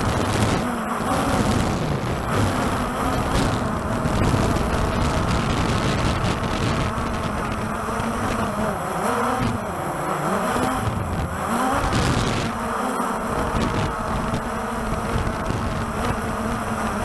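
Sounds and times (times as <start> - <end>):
wind buffeting microphone: 0.0 - 9.8, 10.5 - 17.0
drone rotors buzzing: 0.0 - 17.0.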